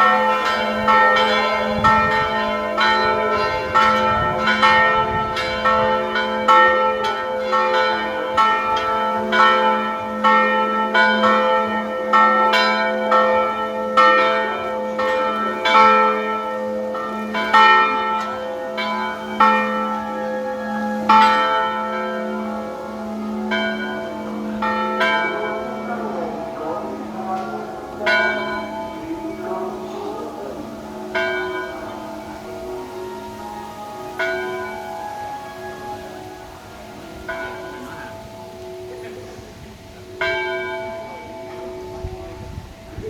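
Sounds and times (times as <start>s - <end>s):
church bells ringing: 0.0s - 43.0s.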